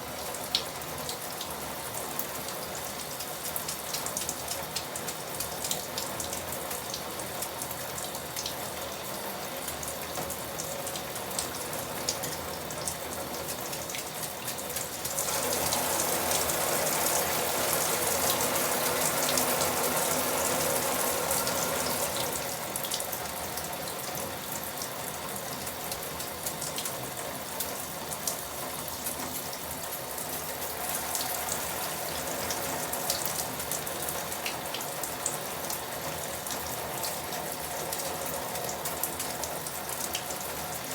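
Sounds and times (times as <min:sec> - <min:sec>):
tap water running and splashing: 0:00.0 - 0:40.9.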